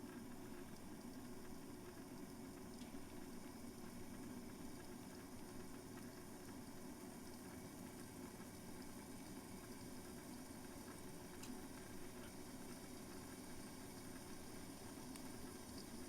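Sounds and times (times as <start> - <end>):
kettle water hissing: 0.0 - 16.0.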